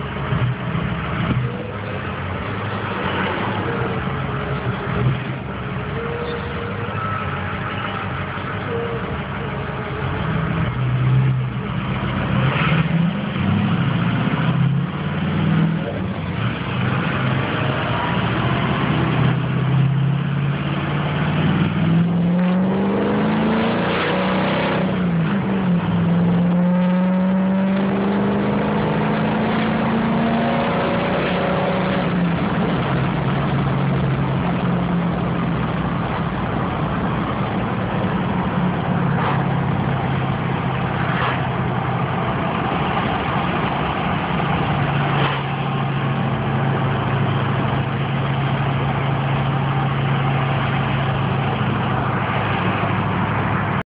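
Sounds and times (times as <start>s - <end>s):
diesel truck engine accelerating: 0.0s - 53.9s.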